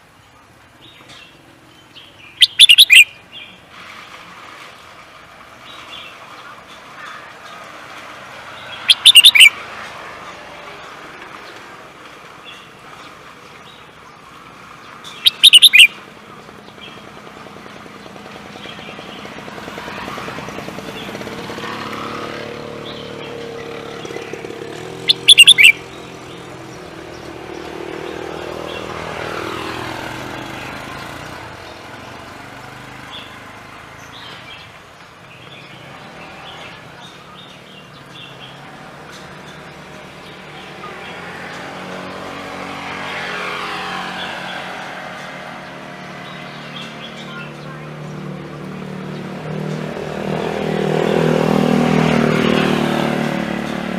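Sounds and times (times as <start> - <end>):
vehicles passing: 0.0 - 53.9
songbird singing: 0.1 - 4.1, 5.6 - 9.8, 11.2 - 19.7, 20.3 - 43.2, 44.2 - 53.9.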